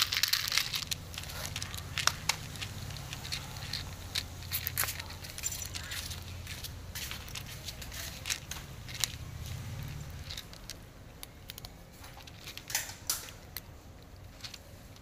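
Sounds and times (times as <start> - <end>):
cats crunching kibble: 0.0 - 15.0.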